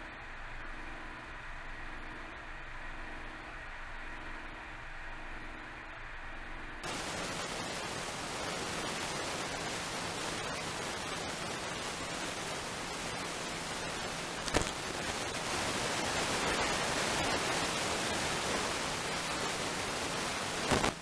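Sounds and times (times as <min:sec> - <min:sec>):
static-like hiss: 0:00.0 - 0:21.0.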